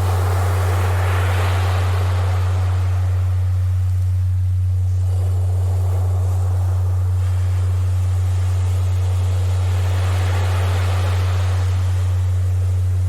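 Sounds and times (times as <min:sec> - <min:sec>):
low electronic sine tone: 0:00.0 - 0:13.0
sea surf: 0:00.0 - 0:13.0.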